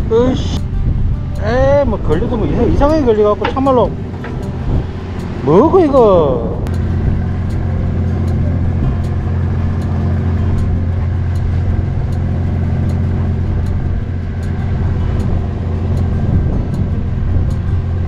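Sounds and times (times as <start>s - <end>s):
boat machinery humming: 0.0s - 18.0s.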